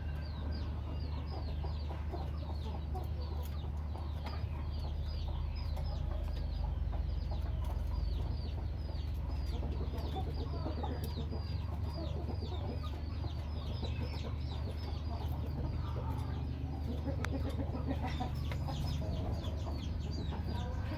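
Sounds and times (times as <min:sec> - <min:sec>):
small bird chirping: 0:00.0 - 0:20.9.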